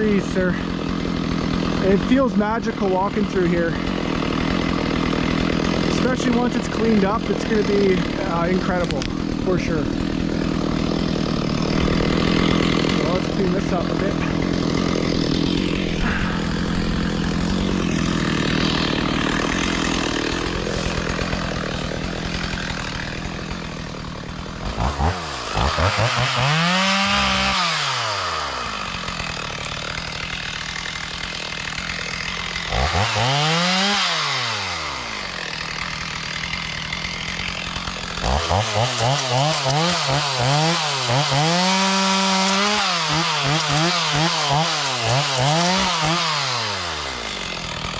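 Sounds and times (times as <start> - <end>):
chainsaw running and revving: 0.0 - 47.9.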